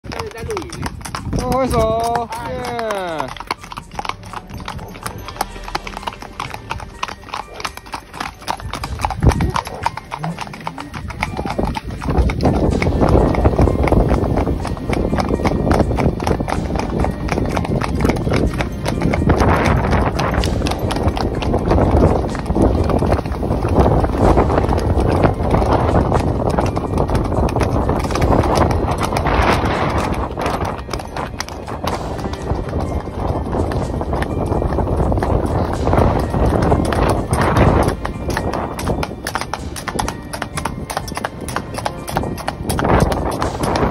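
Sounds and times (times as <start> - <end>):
horse hooves on pavement: 0.0 - 43.9.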